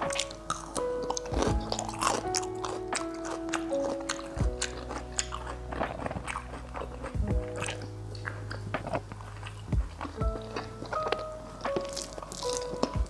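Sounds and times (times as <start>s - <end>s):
background music with bass line: 0.0s - 13.0s
person chewing food: 0.0s - 13.0s.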